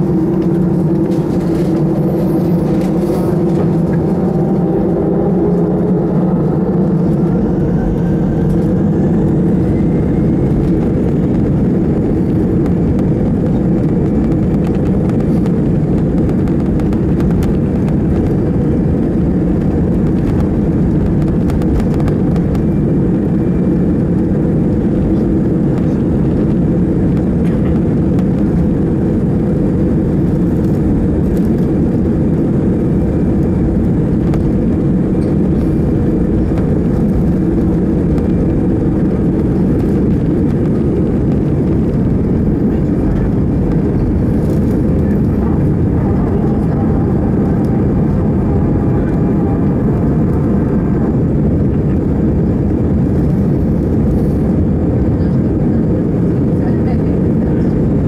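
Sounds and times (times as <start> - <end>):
jet engines at takeoff thrust: 0.0 - 58.0.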